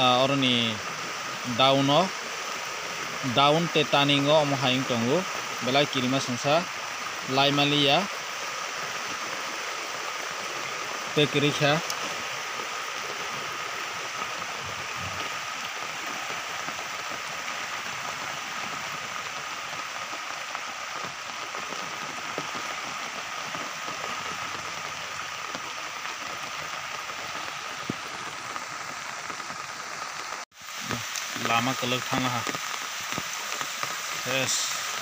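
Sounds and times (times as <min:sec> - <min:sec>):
rain hiss: 0:00.0 - 0:35.0
rushing floodwater: 0:00.0 - 0:35.0.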